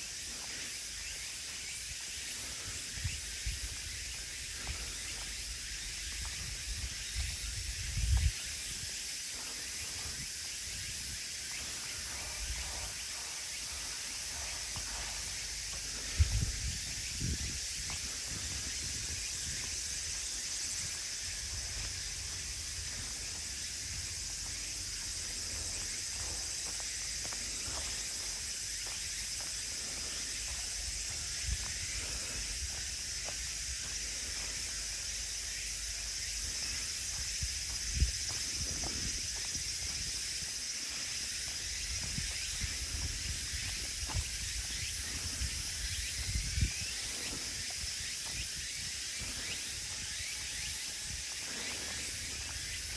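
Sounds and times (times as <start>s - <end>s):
insects chirring: 0.0s - 52.9s.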